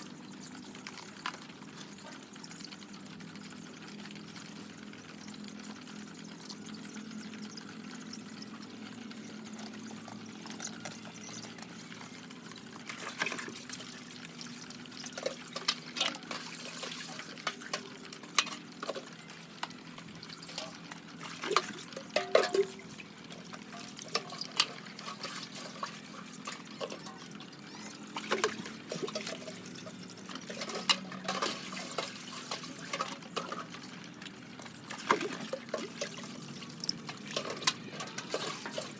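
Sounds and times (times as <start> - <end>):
water pouring and trickling: 0.0 - 38.9.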